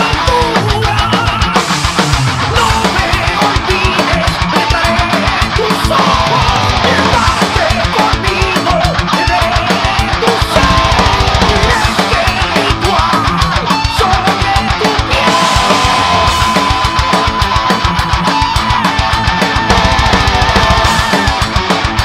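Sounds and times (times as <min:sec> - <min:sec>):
fast kick drum pattern: 0:00.0 - 0:22.0
heavy metal song: 0:00.0 - 0:22.0.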